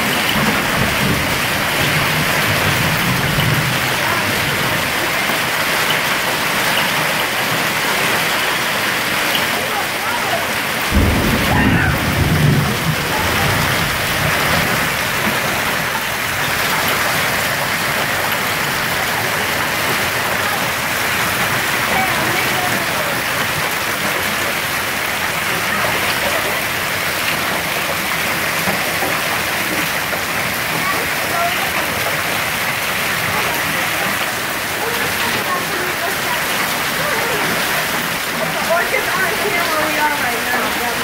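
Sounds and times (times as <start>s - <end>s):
hail and heavy rain falling: 0.0s - 41.0s.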